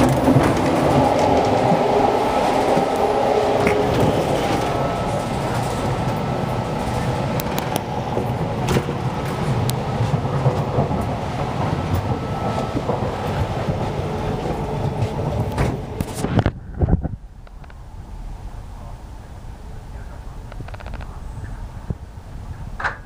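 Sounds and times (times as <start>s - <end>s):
train running rumble: 0.0s - 23.0s.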